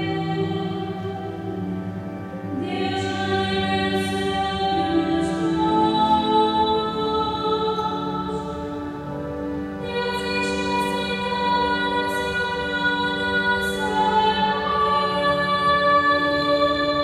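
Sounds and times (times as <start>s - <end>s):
organ accompaniment: 0.0s - 17.0s.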